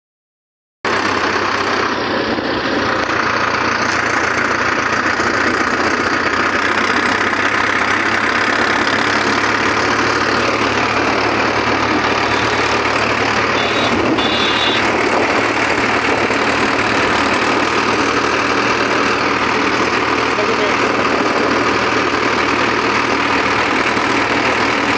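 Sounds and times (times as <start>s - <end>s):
tractor diesel engine idling: 0.9s - 24.9s.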